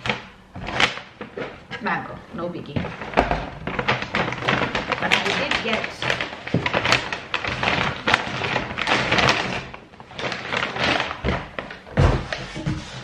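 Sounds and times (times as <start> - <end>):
wrapping paper crinkling: 0.0 - 1.9, 2.6 - 13.0.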